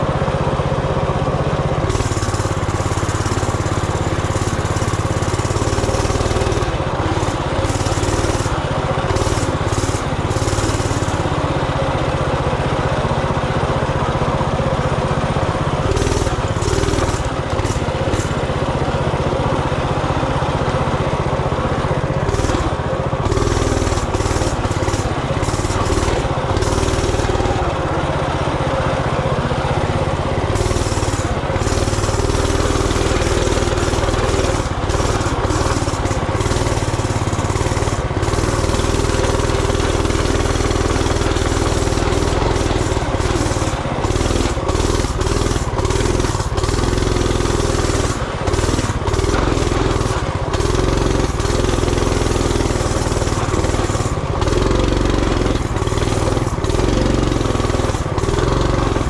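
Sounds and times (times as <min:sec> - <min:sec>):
minibike engine running: 0:00.0 - 0:59.0.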